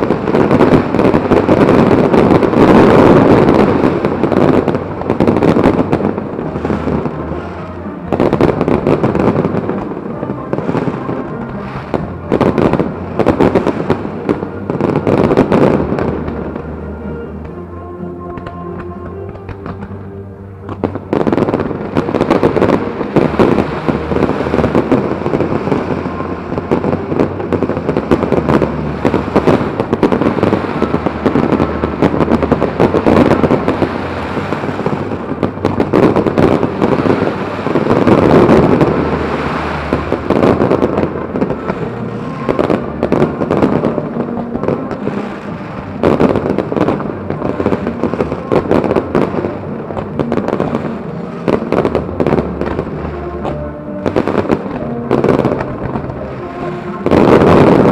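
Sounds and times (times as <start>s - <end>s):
fireworks bangs: 0.0s - 57.9s
fireworks crackling: 0.0s - 57.9s.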